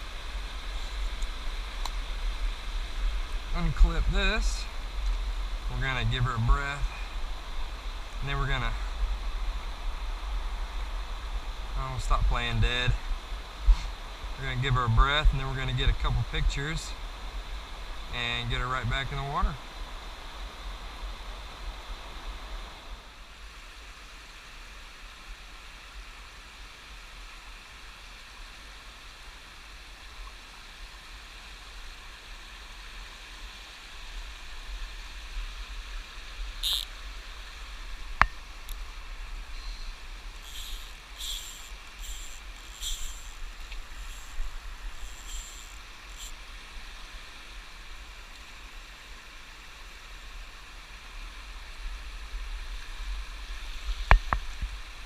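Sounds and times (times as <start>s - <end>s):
rustles: 0.0s - 24.3s, 27.1s - 55.0s.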